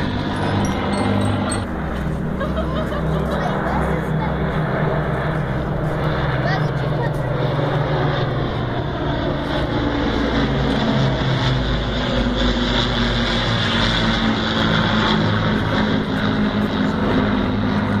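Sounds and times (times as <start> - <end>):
bomber piston engines droning: 0.0 - 18.0
propeller fighter engines: 0.0 - 18.0.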